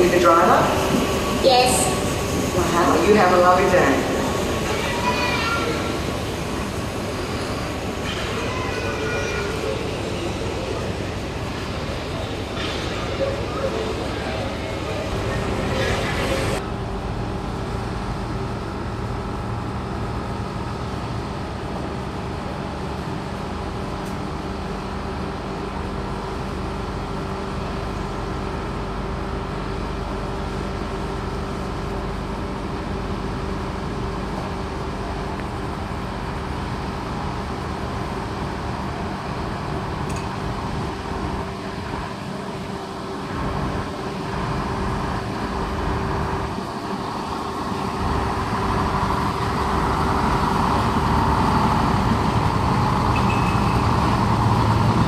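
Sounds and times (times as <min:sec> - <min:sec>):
diesel rail motor engine drone: 0:00.0 - 0:55.0.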